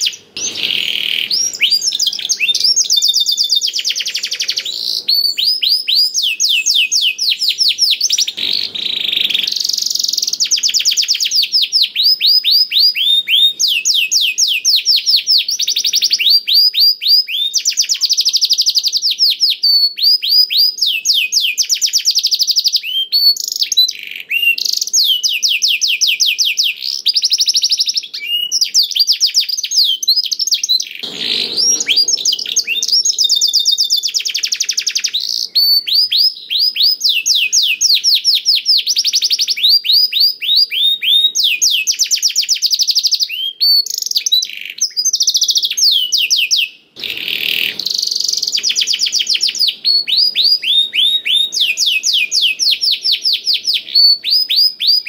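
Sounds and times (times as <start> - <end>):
canary singing fast trills: 0.0 - 55.0.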